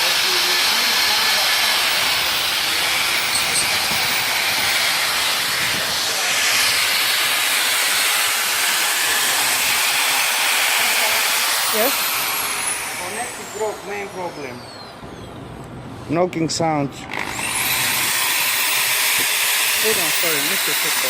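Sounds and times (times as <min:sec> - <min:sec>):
loud steady hiss: 0:00.0 - 0:14.5, 0:17.4 - 0:21.0.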